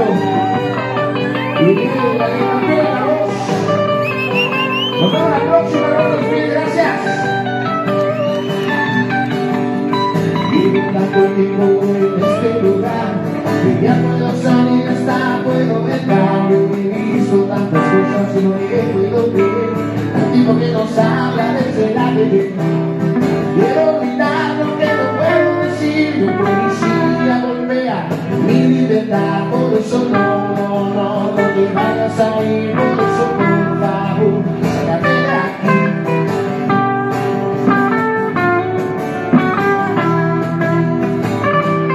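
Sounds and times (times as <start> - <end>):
person singing: 0.0 - 7.7, 10.3 - 36.4
live rock guitars: 0.0 - 41.9.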